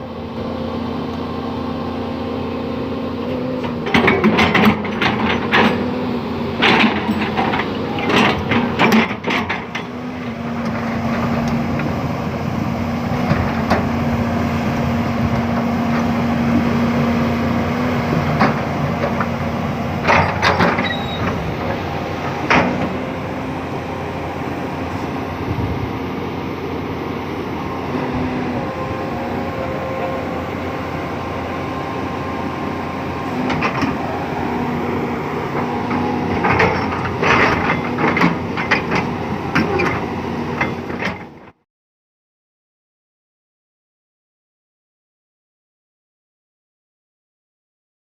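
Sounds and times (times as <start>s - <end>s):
excavator engine running: 0.0s - 41.6s.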